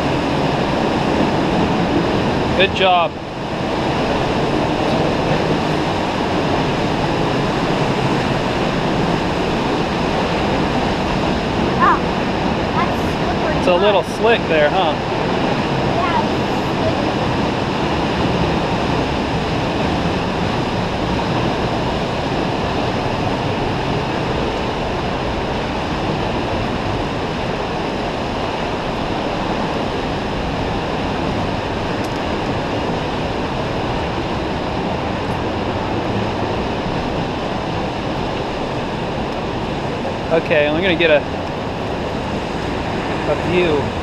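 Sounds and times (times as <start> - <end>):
waterfall roaring: 0.0 - 44.0.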